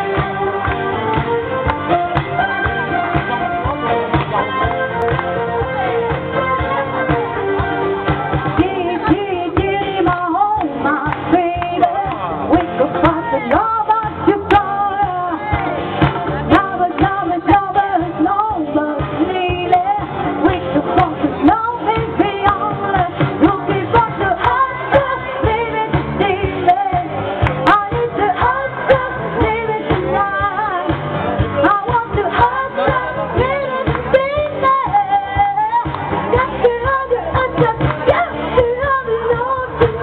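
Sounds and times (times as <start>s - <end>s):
woman singing into a microphone: 0.0s - 1.6s, 6.3s - 40.0s
pop backing music with beat: 0.0s - 40.0s.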